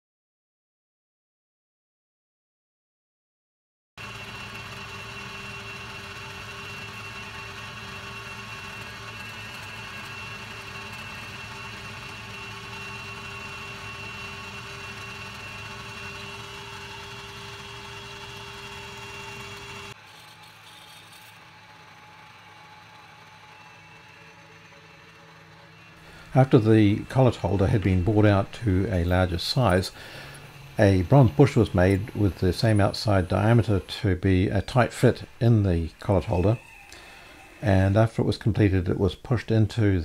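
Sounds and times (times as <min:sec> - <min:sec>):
drill boring into metal: 0:04.0 - 0:38.8
metalworking lathe whining: 0:04.0 - 0:40.0.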